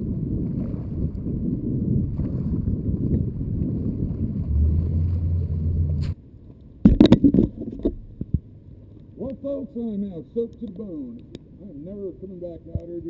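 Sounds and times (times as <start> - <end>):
wind and rain buffeting microphone: 0.0 - 13.0.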